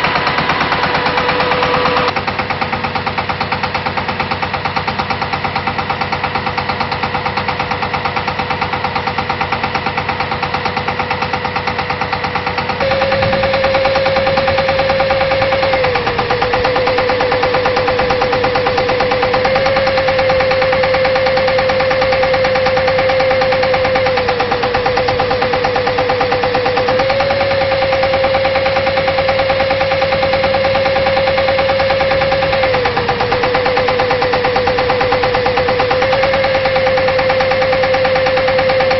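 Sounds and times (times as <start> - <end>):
air hammer hammering: 0.0 - 38.9
engine running: 0.0 - 38.9.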